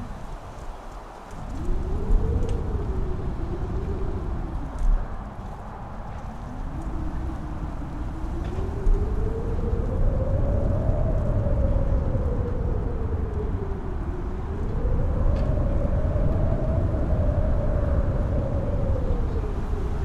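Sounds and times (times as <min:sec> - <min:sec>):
strong wind howling: 0:00.0 - 0:20.0.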